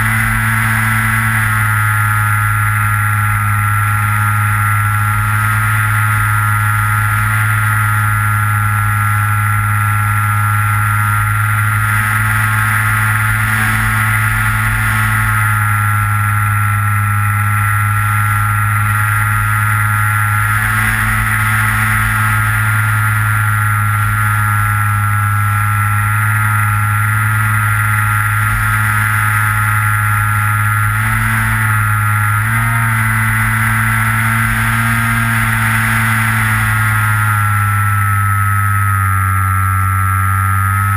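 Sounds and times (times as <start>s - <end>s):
model plane motor and propeller: 0.0s - 40.9s.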